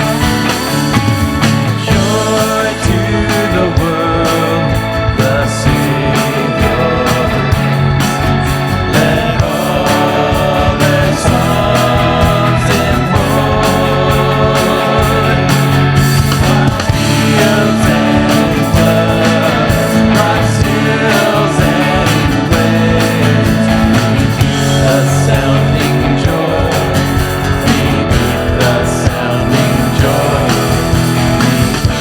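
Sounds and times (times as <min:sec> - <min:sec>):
held bass notes: 0:00.0 - 0:32.0
steady drum beat: 0:00.0 - 0:32.0
worship band music: 0:00.0 - 0:32.0.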